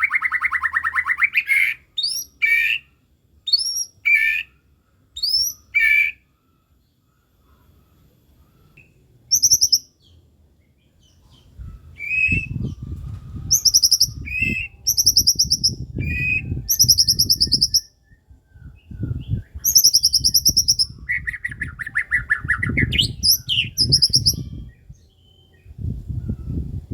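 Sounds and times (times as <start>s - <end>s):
songbird trills and whistles: 0.0s - 2.9s, 3.5s - 4.6s, 5.2s - 6.3s, 8.4s - 10.2s, 11.0s - 26.8s.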